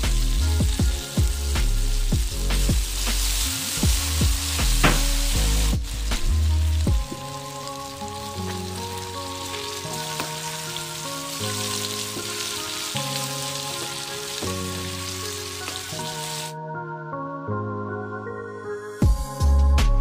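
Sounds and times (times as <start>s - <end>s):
food sizzling in hot oil: 0.0s - 16.5s.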